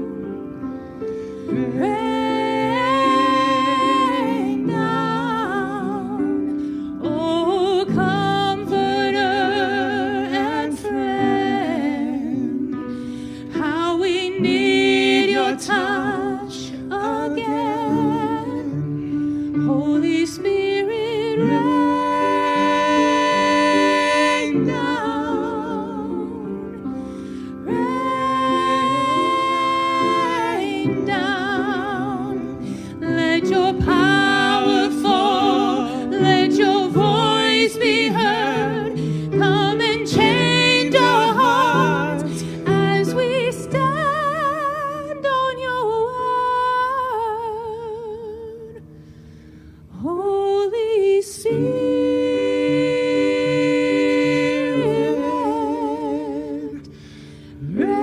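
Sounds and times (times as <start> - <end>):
person singing with vibrato: 1.3 - 49.0.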